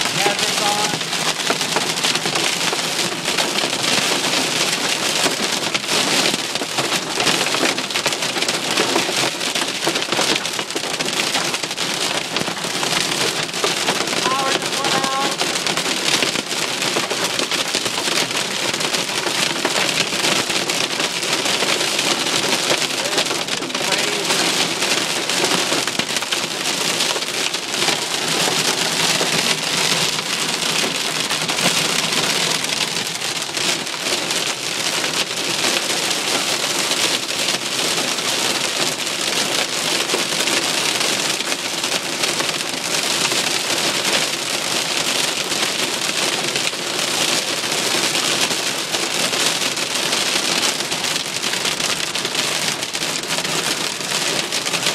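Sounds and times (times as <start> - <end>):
heavy rain on a car: 0.0 - 54.9.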